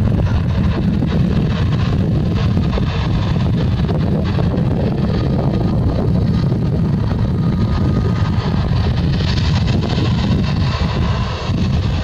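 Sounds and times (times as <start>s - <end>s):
jet engines idling: 0.0s - 12.0s
wind on microphone: 0.0s - 12.0s.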